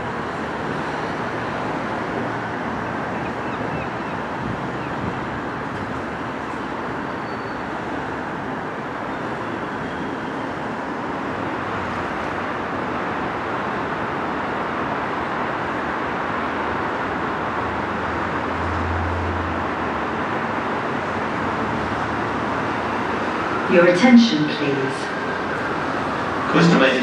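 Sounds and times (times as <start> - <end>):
electric train rushing rumble: 0.0 - 27.0.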